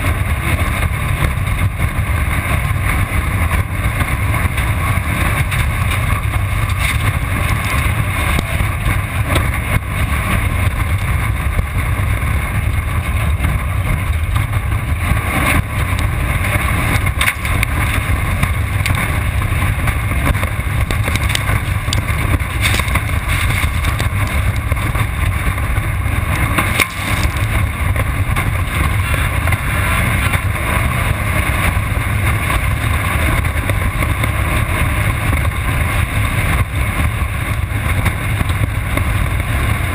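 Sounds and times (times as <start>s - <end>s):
race car engine: 0.0s - 39.9s
wind noise: 0.0s - 39.9s.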